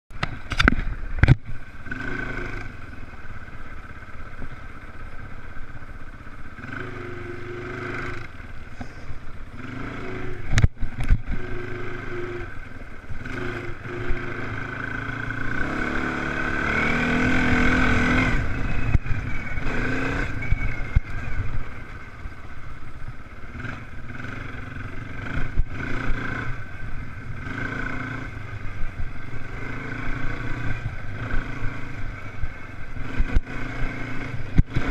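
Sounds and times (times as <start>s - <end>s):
motocross engines revving: 1.2s - 5.1s, 6.0s - 34.9s.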